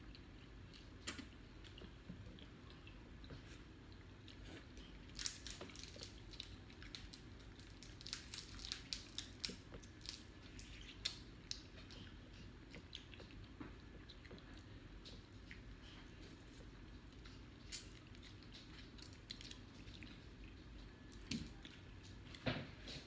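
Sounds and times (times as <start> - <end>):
chewing with wet smacks: 0.0 - 23.0.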